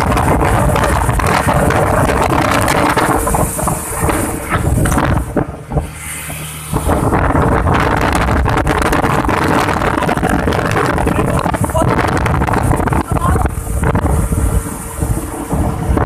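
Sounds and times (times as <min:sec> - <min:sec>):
outboard engine drone: 0:00.0 - 0:16.0
wind buffeting on microphone: 0:00.0 - 0:16.0.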